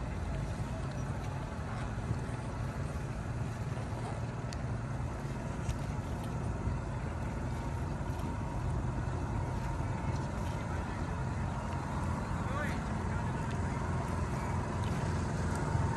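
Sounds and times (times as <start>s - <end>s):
low rumble of boat traffic: 0.0s - 15.9s
river water washing: 0.0s - 15.9s.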